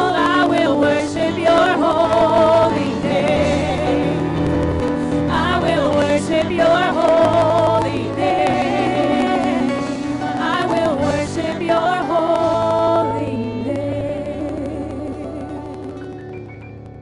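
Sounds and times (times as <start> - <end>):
women singing worship song: 0.0 - 16.0
keyboard accompaniment: 0.0 - 17.0.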